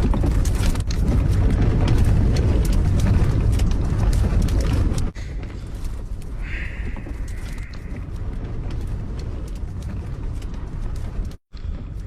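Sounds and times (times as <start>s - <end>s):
gale wind buffeting microphone: 0.0s - 12.0s.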